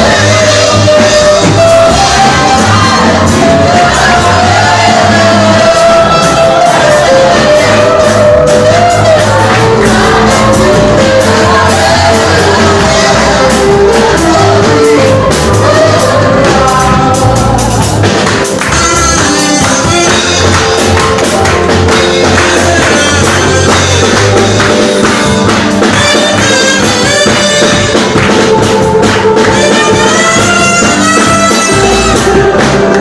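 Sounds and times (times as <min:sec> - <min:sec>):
band with drums playing: 0:00.0 - 0:33.0
people singing: 0:00.0 - 0:33.0.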